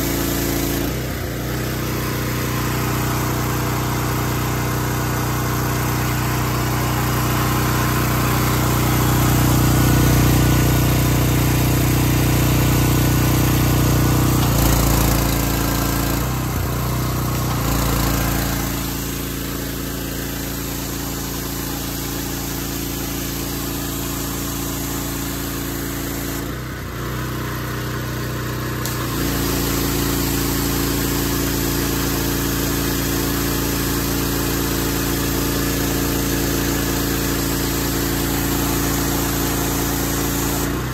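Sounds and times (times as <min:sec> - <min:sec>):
water hissing from spray wand: 0:00.0 - 0:26.6, 0:28.8 - 0:40.9
small gas engine running: 0:00.0 - 0:40.9.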